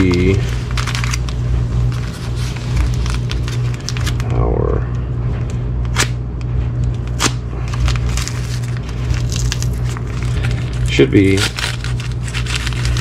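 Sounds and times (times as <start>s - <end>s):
packing paper crinkling: 0.0s - 4.6s, 6.9s - 13.0s
steady low hum: 0.0s - 13.0s.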